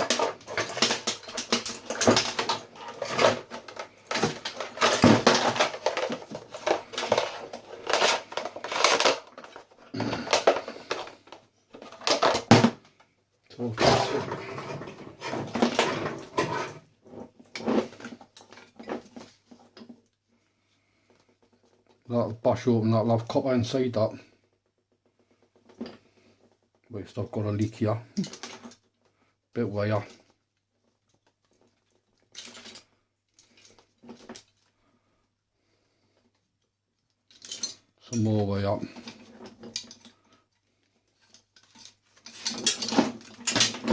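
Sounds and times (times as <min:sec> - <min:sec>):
plastic and metal parts clattering: 0:00.0 - 0:20.1, 0:20.8 - 0:22.1, 0:24.0 - 0:29.2, 0:29.8 - 0:35.0, 0:36.1 - 0:43.9.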